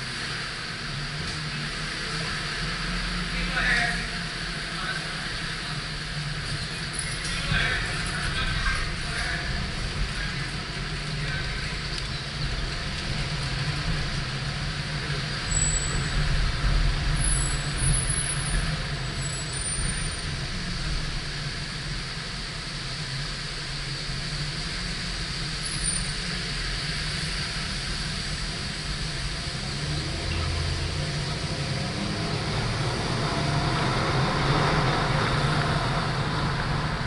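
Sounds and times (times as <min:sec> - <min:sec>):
car road noise: 0:00.0 - 0:37.0
hiss of air and traffic: 0:00.0 - 0:37.0.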